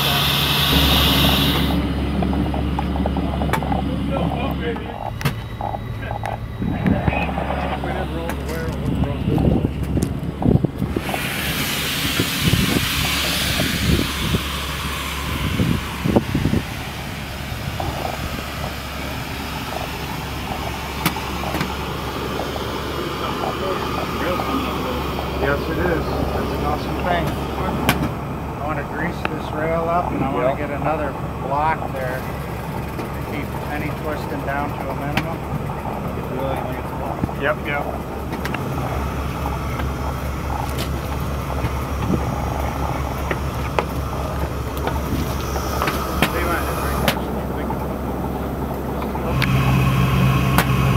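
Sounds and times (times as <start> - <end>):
low engine rumble: 0.0 - 50.9.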